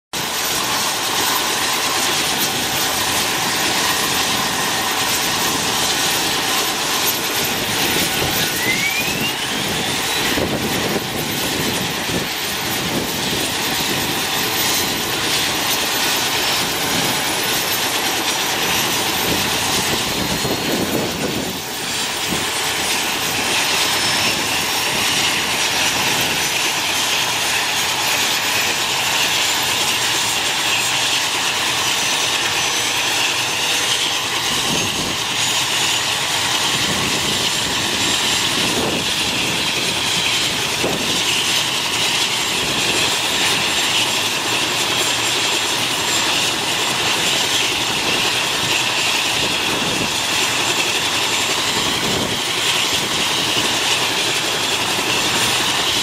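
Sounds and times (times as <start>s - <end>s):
helicopter turbine engines: 0.1s - 56.0s.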